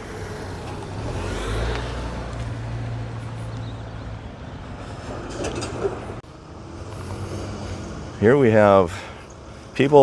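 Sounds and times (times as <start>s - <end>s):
car driving past: 0.0s - 9.1s.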